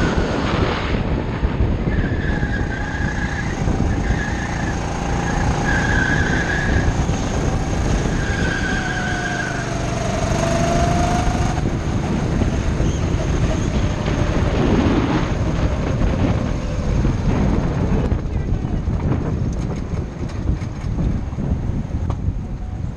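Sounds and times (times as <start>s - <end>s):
wind rumble on microphone: 0.0s - 22.9s
go-kart engine running: 2.4s - 22.9s.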